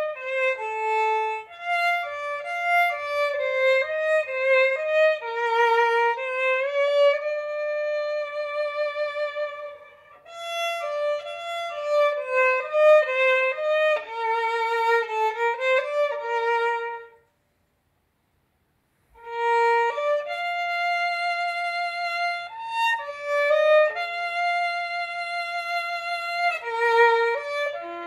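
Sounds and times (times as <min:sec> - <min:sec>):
solo violin melody: 0:00.0 - 0:17.3, 0:19.1 - 0:28.0.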